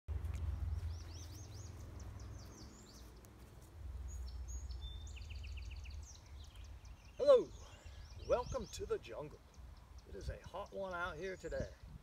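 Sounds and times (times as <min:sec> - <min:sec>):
songbirds chirping: 0:00.1 - 0:12.0.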